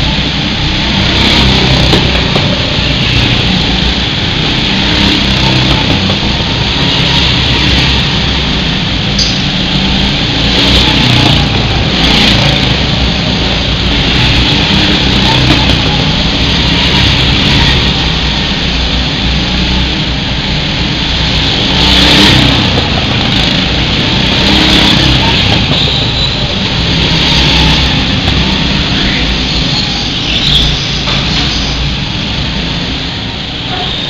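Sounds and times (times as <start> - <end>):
go-kart engines racing past: 0.0 - 34.0.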